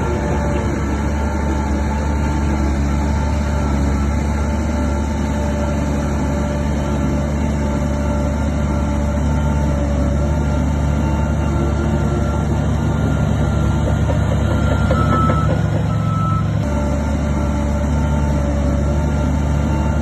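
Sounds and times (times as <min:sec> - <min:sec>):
heavy diesel engine rumbling: 0:00.0 - 0:20.0.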